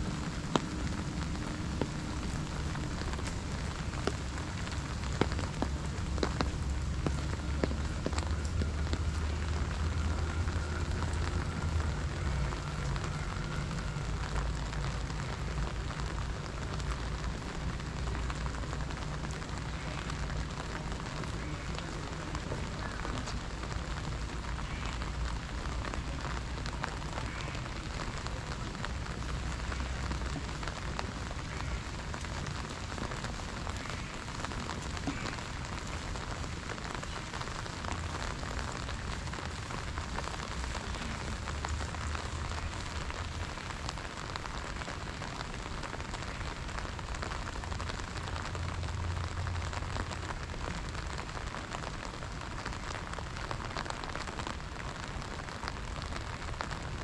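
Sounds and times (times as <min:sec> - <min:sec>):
rain on stone paving: 0:00.0 - 0:57.0.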